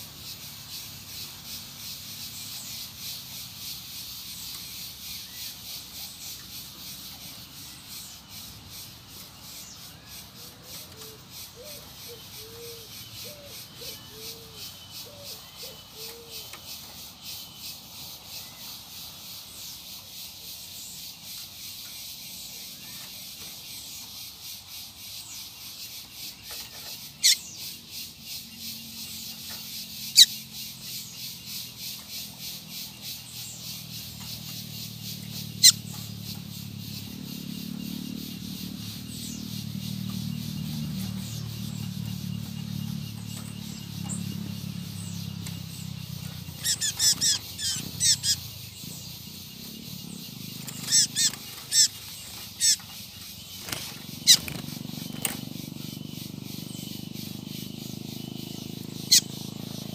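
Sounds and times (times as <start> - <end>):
pulsing insect chorus: 0.0 - 59.9.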